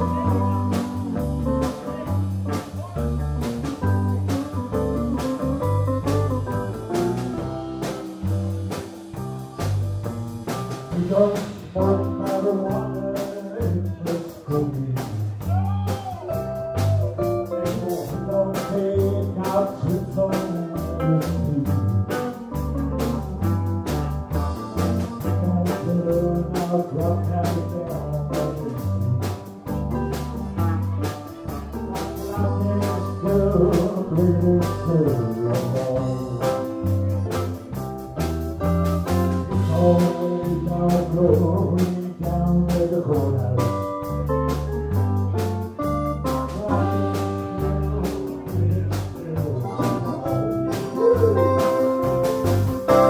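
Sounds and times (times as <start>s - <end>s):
drum kit beat: 0.0s - 53.0s
electric bass guitar: 0.0s - 53.0s
guitar: 0.0s - 53.0s
keyboard: 0.0s - 53.0s.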